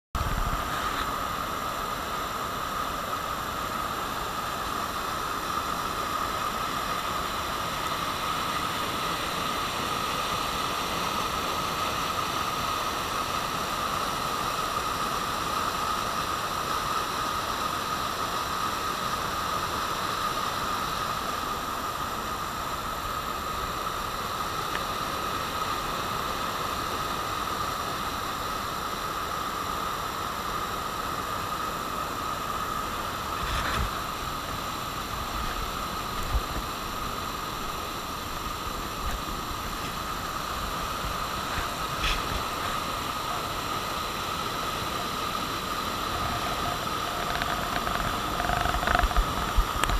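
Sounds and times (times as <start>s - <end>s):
rushing floodwater: 0.2s - 49.9s.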